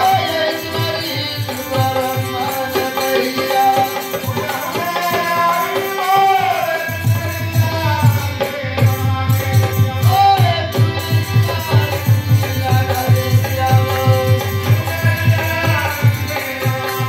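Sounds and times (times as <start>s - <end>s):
harmonium held notes: 0.0s - 17.0s
man singing: 0.0s - 17.0s.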